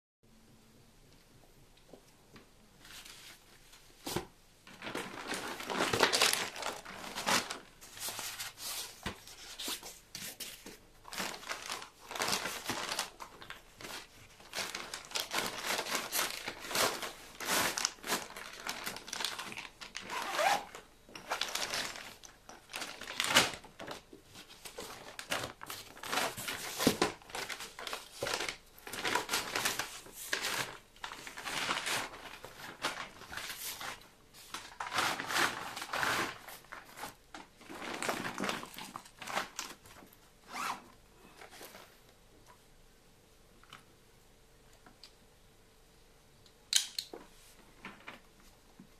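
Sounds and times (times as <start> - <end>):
delivery bag rustling and crinkling: 2.8 - 42.0.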